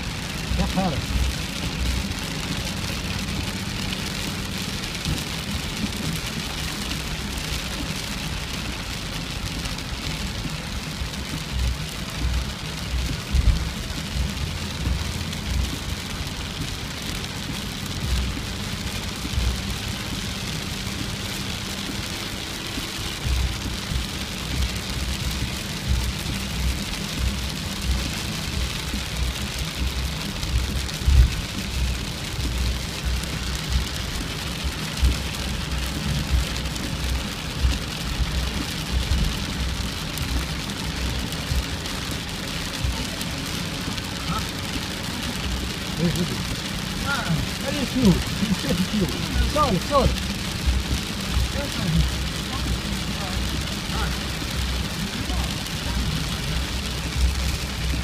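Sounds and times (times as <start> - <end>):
low rumbles: 0.0 - 58.0
steady rain falling: 0.0 - 58.0.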